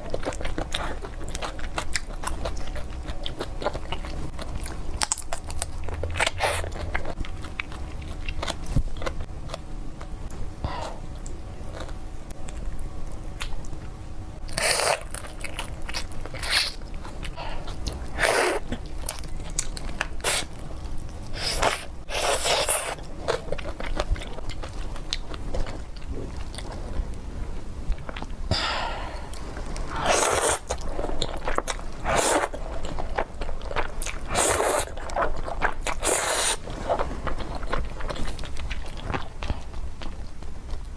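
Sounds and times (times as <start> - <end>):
chewing and biting seafood: 0.0 - 9.6, 14.5 - 27.2, 27.9 - 40.9.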